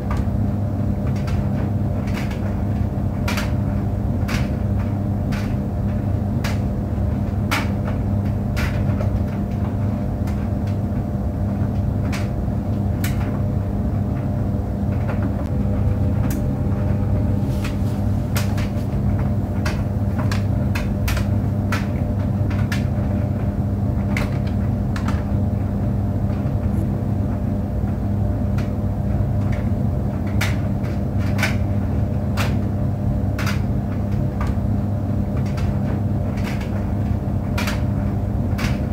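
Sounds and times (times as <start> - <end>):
tumble dryer humming: 0.0 - 38.9.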